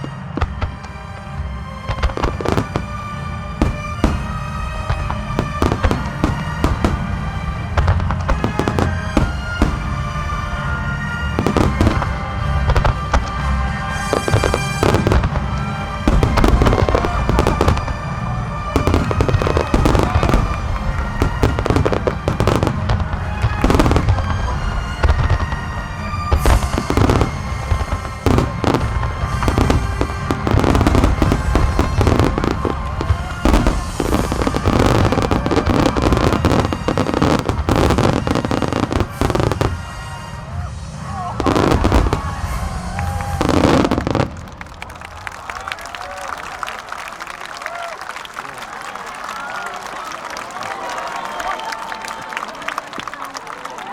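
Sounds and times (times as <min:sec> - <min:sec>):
fireworks booming and crackling: 0:00.0 - 0:48.1
music: 0:00.0 - 0:53.9.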